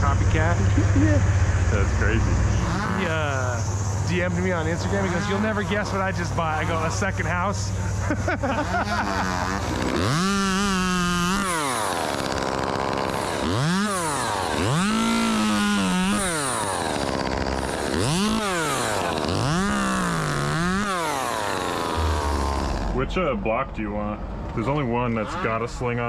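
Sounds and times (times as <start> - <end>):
chainsaw engine revving: 0.0 - 23.4, 24.4 - 26.0.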